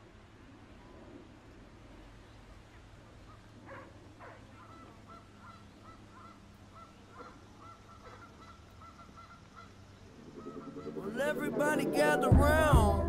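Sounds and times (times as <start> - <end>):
faint geese honking: 0.0 - 13.0.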